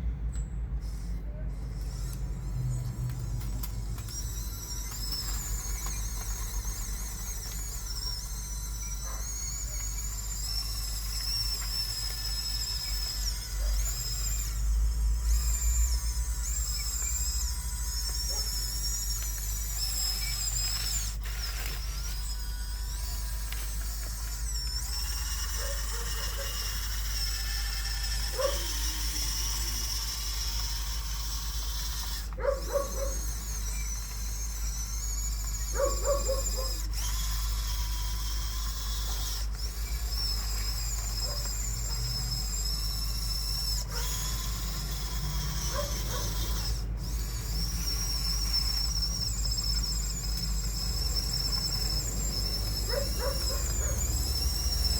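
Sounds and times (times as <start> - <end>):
toy bulldozer motors whining: 0.0 - 54.9.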